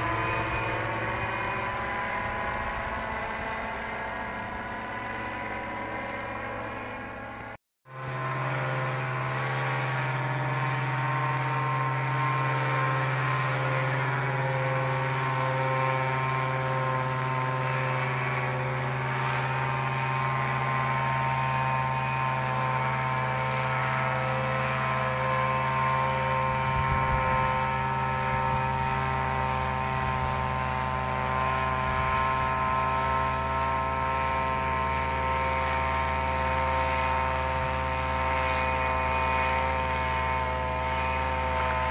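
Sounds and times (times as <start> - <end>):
paramotor engine passing overhead: 0.0 - 41.9.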